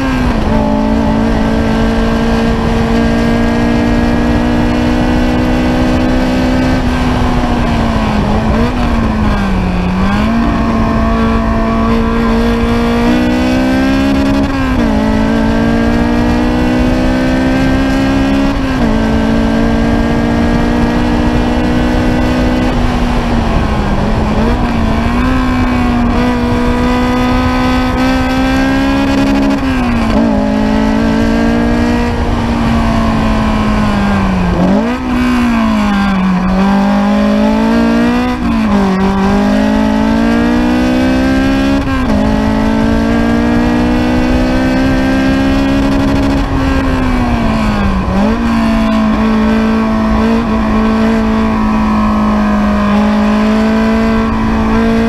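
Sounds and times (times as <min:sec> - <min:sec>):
car engine running hard: 0:00.0 - 0:55.0.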